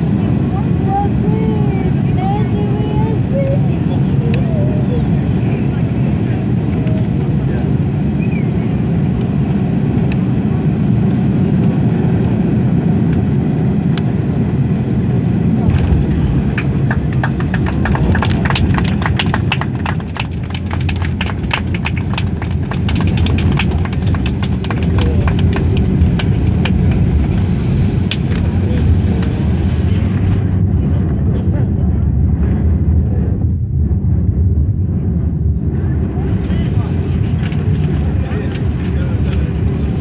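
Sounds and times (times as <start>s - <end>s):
deep rumble of engines and wheels: 0.0s - 40.0s.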